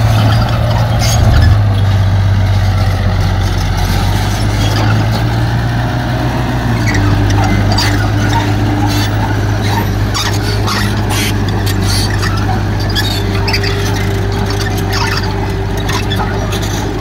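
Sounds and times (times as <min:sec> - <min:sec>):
diesel engine of heavy machinery: 0:00.0 - 0:17.0.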